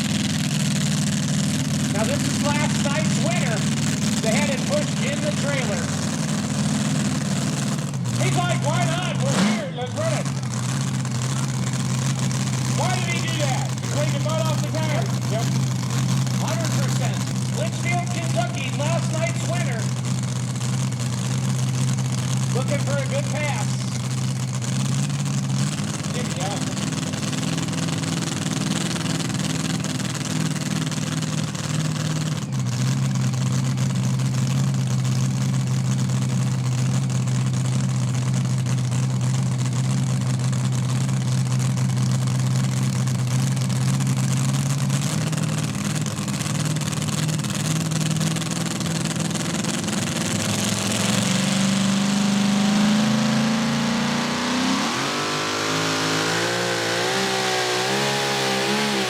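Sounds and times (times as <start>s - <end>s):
tractor engine revving: 0.0s - 59.0s.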